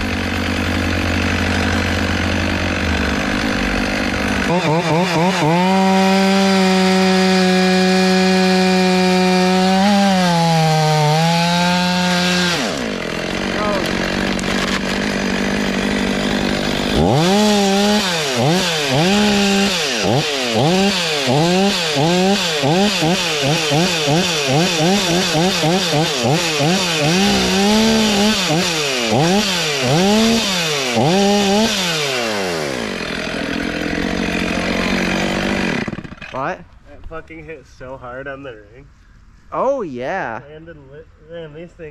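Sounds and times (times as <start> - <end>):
chainsaw cutting wood: 0.0 - 36.6.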